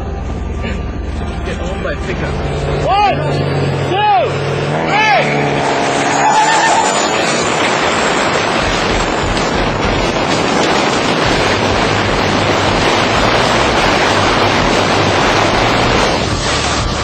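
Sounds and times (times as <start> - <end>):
low engine drone: 0.0 - 17.0
wind rushing over microphone: 0.0 - 17.0.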